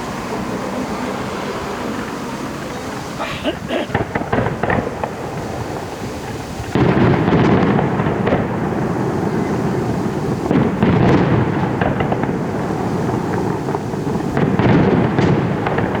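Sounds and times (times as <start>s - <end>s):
fireworks bangs: 0.0s - 16.0s
fireworks barrage rumbling: 0.0s - 16.0s.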